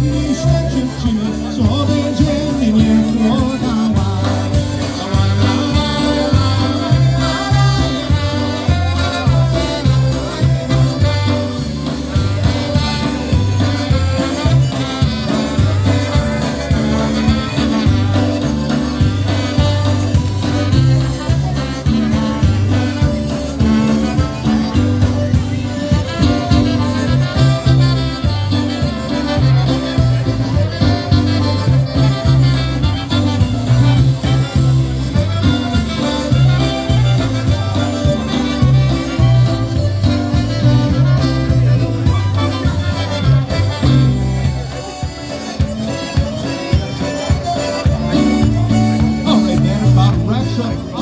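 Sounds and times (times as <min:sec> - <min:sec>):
polka band playing: 0:00.0 - 0:51.0.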